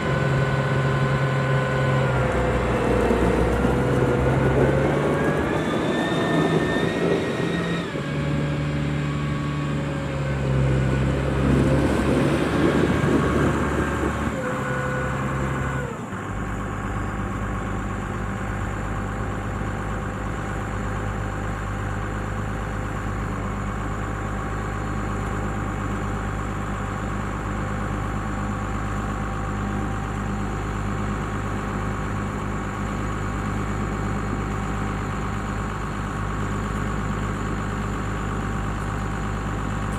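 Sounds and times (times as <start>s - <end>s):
diesel tractor engine revving: 0.0s - 39.9s.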